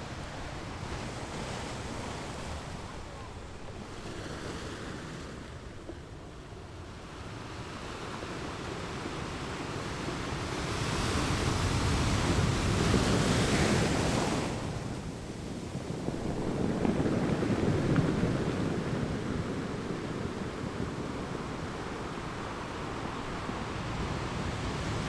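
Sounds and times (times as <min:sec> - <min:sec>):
ocean waves washing ashore: 0:00.0 - 0:25.0.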